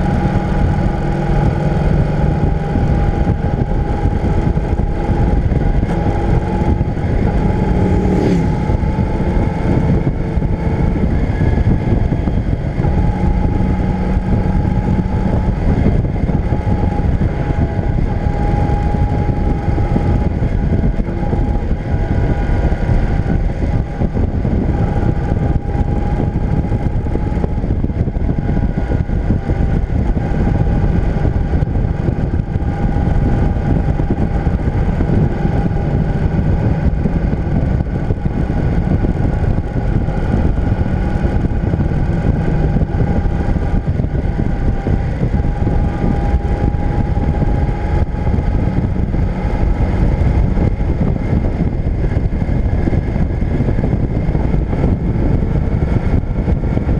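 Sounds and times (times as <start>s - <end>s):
motorcycle engine whine: 0.0s - 56.9s
wind rumble on microphone: 0.0s - 56.9s.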